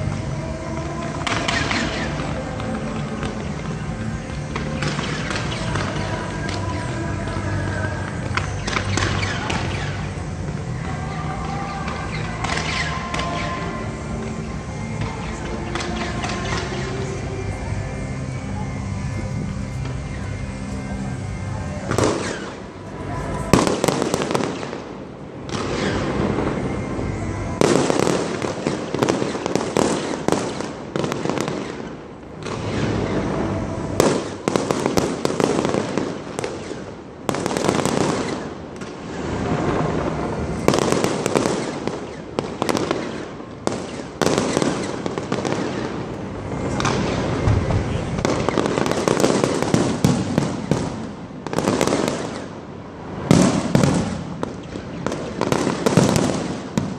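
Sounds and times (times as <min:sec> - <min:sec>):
fireworks bursting and crackling: 0:00.0 - 0:56.9.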